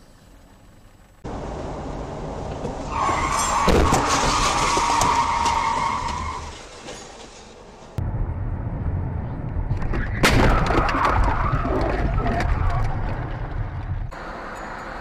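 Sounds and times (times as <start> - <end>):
low road rumble: 0.0 - 15.0.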